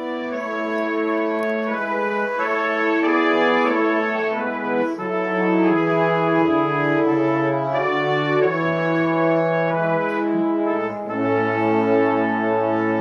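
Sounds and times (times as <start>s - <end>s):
brass instruments playing: 0.0s - 13.0s.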